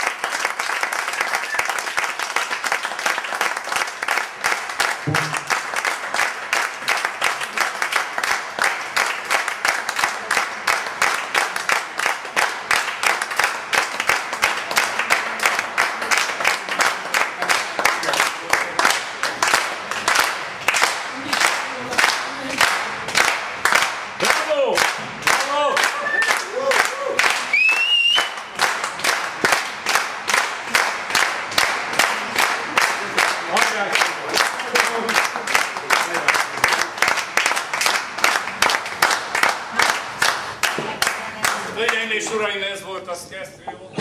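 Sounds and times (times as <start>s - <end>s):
audience applauding: 0.0s - 42.5s.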